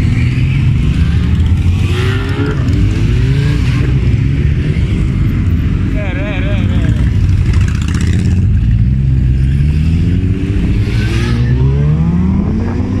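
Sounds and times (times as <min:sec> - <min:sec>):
motorcycle engine revving: 0:00.0 - 0:05.8, 0:06.7 - 0:13.0
motorcycle engines passing: 0:00.0 - 0:13.0.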